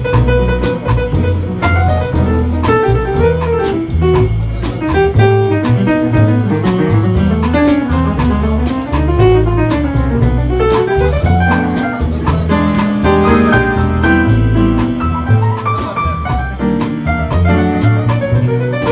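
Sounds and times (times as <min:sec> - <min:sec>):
bass line: 0:00.0 - 0:18.9
drum strokes: 0:00.0 - 0:18.9
jazz melody: 0:00.0 - 0:18.9.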